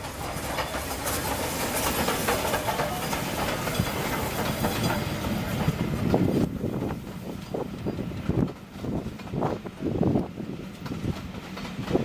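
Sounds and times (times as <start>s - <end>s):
steam locomotive passing: 0.0s - 12.0s
wheels on rails: 0.0s - 12.0s.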